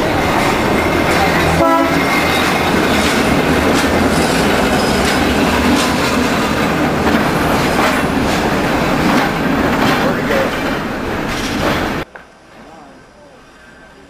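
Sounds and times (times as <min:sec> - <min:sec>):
wheels clicking over rail joints: 0:00.0 - 0:12.7
diesel locomotive engine: 0:00.0 - 0:14.0.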